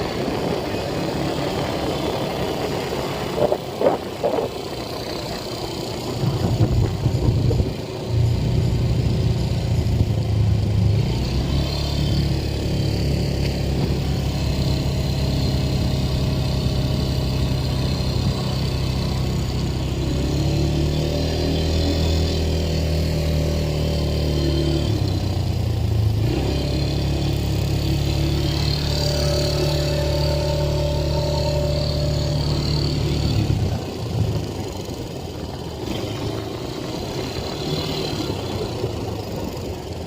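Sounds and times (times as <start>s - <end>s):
atv engine running: 0.0s - 40.0s.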